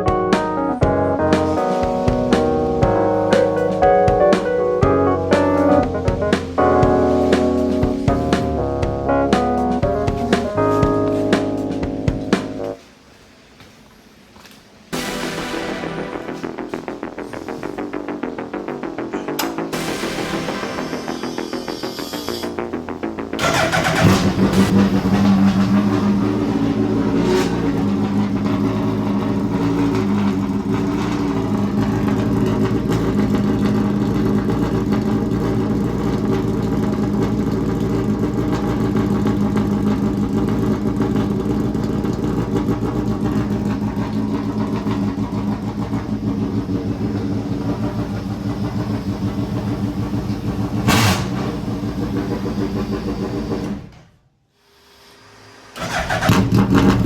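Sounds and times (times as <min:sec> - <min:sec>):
racing car engine running: 0:00.0 - 0:12.8, 0:15.0 - 0:54.0, 0:55.7 - 0:57.0.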